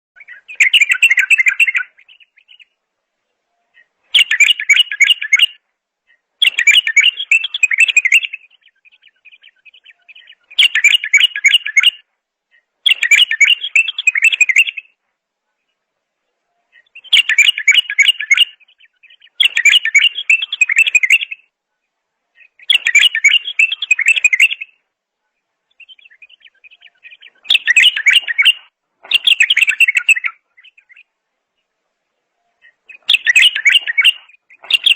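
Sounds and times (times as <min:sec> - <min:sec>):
songbird warbling: 0:00.2 - 0:02.8, 0:03.5 - 0:15.0, 0:16.5 - 0:21.5, 0:22.4 - 0:24.8, 0:25.7 - 0:34.9
soft bird twittering: 0:00.2 - 0:15.0, 0:15.6 - 0:21.6, 0:22.3 - 0:34.9.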